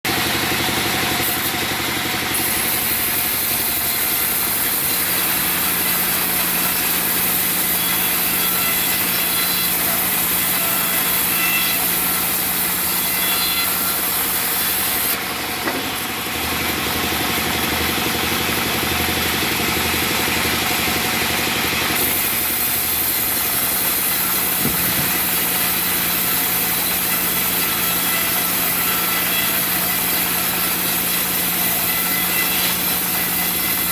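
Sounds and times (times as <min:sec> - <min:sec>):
machine hum: 0:00.1 - 0:33.9
sawmill sawing log: 0:00.1 - 0:33.9.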